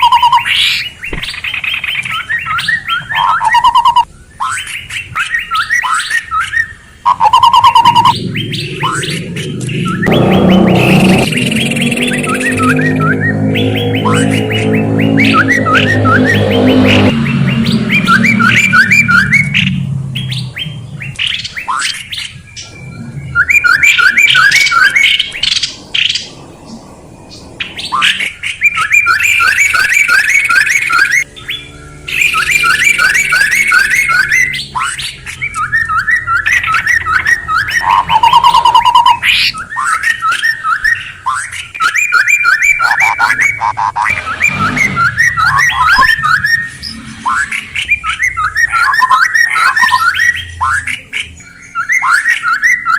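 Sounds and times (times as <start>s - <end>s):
harsh squawk-like bird notes: 0.0s - 26.3s, 27.4s - 52.9s
recorded songbird chirping: 0.0s - 52.9s.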